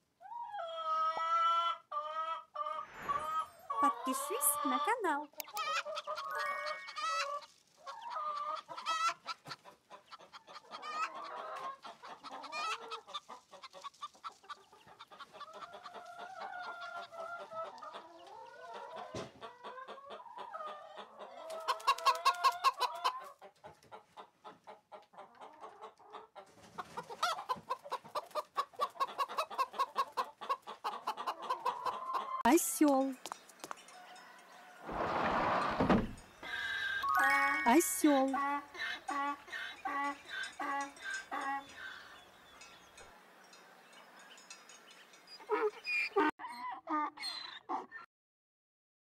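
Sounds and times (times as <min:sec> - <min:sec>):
hens clucking: 0:00.3 - 0:33.1, 0:33.7 - 0:42.7.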